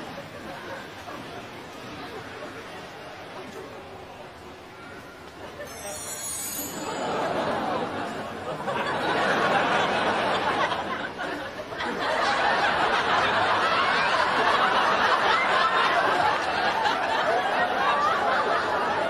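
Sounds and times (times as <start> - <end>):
crowd laughing and chattering: 0.0 - 19.0.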